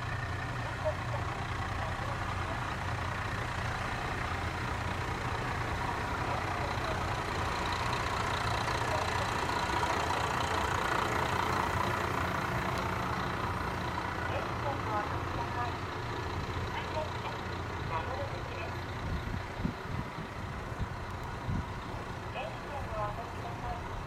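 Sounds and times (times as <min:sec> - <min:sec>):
diesel engine idling hum: 0:00.0 - 0:24.0.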